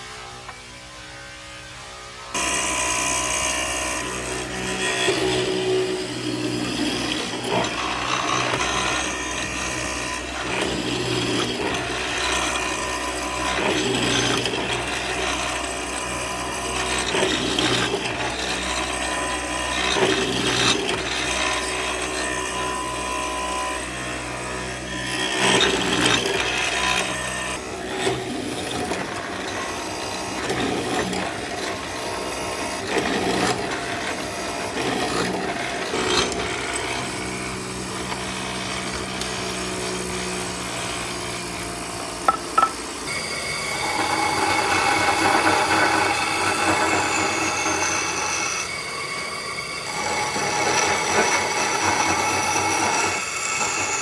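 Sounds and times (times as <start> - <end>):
power tool motor hum: 0.0 - 54.0.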